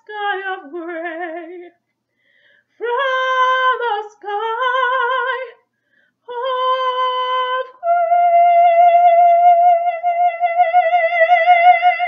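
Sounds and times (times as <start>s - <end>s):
woman singing unaccompanied: 0.0s - 1.8s, 2.8s - 5.6s, 6.3s - 12.0s.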